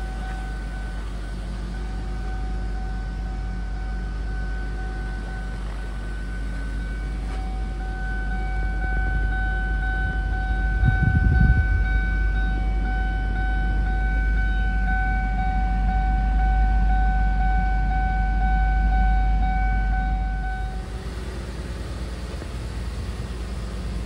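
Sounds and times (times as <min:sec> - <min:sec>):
car warning chime steady tone: 0:00.0 - 0:24.0
low rumble: 0:00.0 - 0:24.0.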